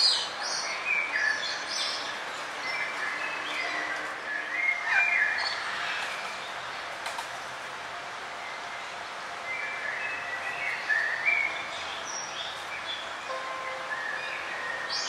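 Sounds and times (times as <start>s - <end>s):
birds chirping: 0.0s - 15.0s
steady background hiss: 0.0s - 15.0s.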